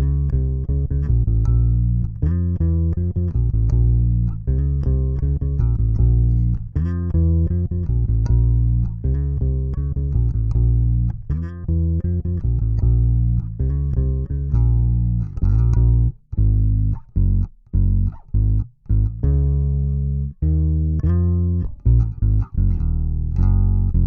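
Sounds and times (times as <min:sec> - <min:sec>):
electric bass plucked notes: 0:00.0 - 0:24.0.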